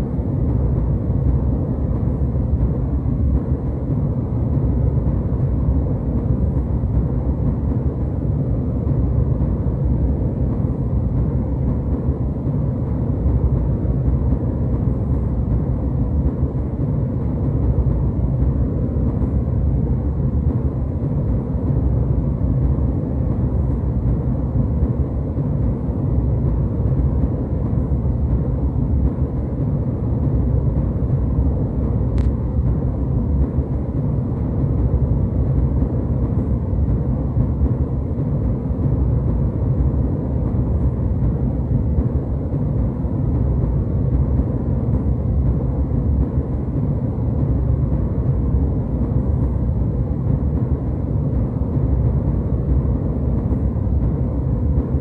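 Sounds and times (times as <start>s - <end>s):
jetliner cabin rumble: 0.0s - 55.0s.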